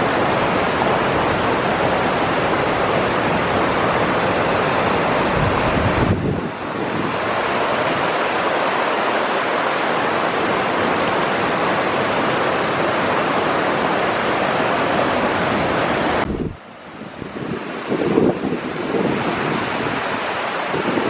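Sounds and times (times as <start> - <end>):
fast-flowing water rushing: 0.0 - 21.0.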